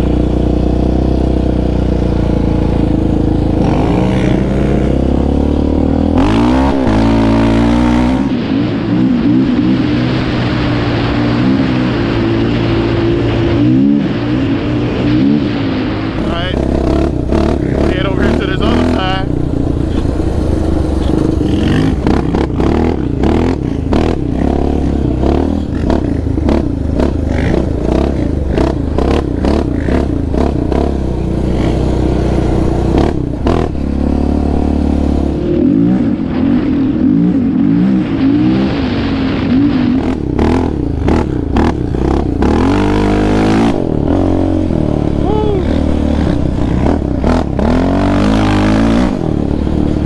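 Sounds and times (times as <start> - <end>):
quad engine revving: 0.0 - 10.3, 16.2 - 50.0.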